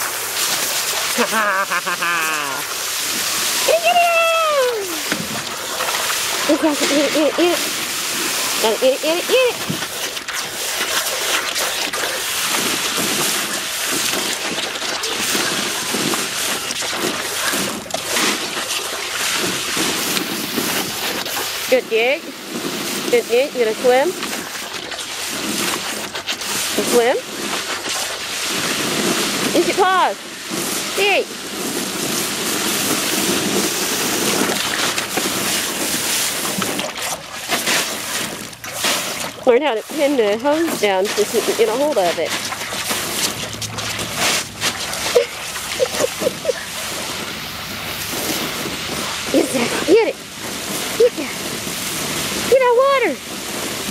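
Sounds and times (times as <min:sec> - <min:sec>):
hose spray hissing: 0:00.0 - 0:14.5, 0:25.2 - 0:53.9
dog splashing in water: 0:00.0 - 0:53.9.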